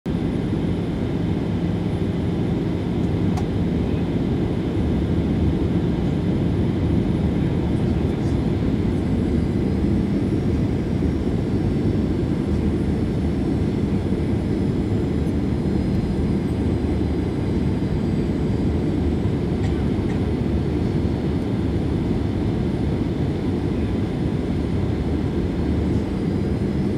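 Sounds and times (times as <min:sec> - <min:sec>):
airflow over aircraft fuselage: 0:00.1 - 0:26.9
jet engines humming: 0:00.1 - 0:26.9.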